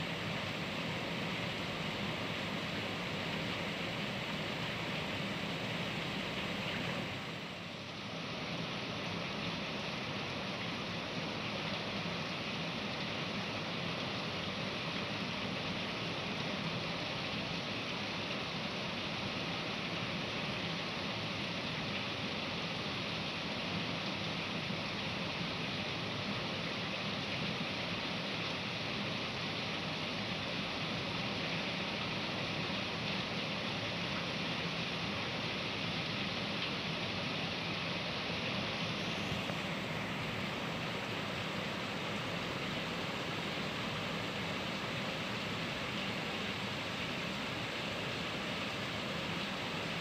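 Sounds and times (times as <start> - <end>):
heavy rain pouring: 0.0 - 22.8, 23.8 - 50.0.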